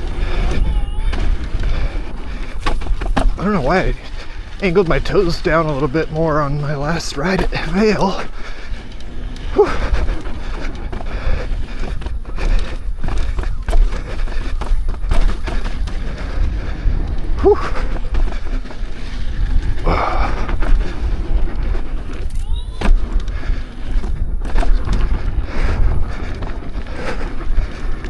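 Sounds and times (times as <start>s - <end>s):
wind rumble on microphone: 0.0s - 5.2s, 8.3s - 28.0s
wheel bumping over rough ground: 0.0s - 28.0s.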